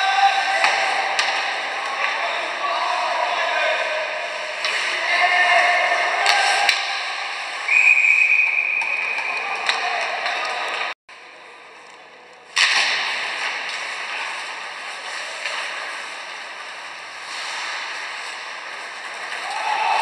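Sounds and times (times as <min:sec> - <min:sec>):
hockey sticks and puck clacks: 0:00.0 - 0:11.0, 0:11.8 - 0:20.0
crowd and skating hiss: 0:00.0 - 0:20.0.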